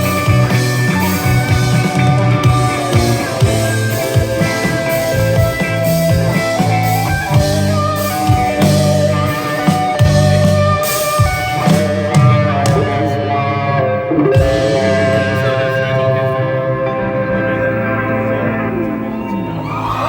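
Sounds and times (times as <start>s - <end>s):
guitars ringing held notes: 0.0s - 19.6s
live rock band playing: 0.0s - 20.0s.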